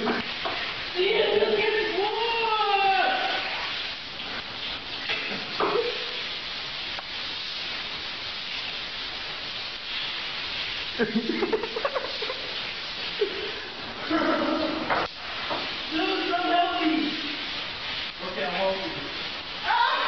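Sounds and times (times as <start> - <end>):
shower spray running: 0.0 - 20.0.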